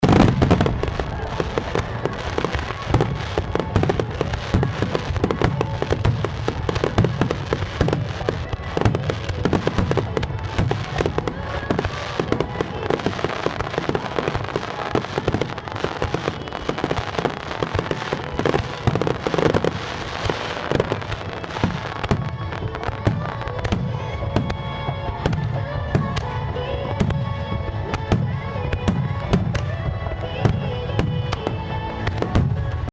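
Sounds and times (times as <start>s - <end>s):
fireworks bursting: 0.0s - 32.9s
music: 0.0s - 32.9s.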